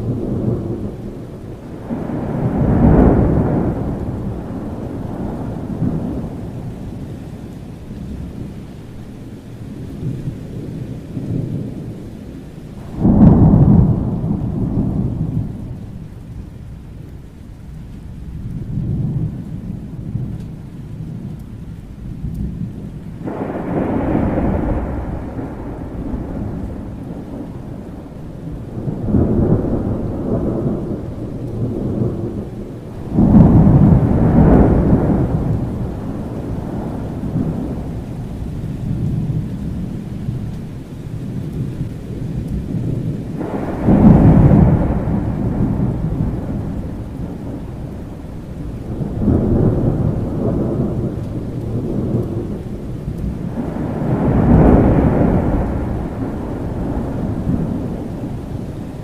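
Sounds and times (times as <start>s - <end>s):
rolling thunder rumbles: 0.0s - 59.0s
steady rain: 0.0s - 59.0s.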